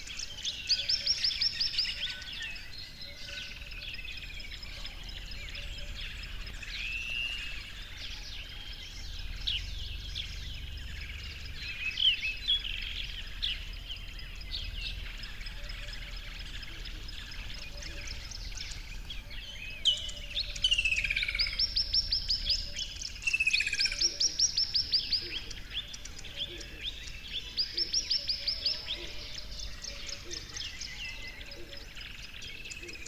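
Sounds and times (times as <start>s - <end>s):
small birds chirping and singing: 0.0s - 33.0s.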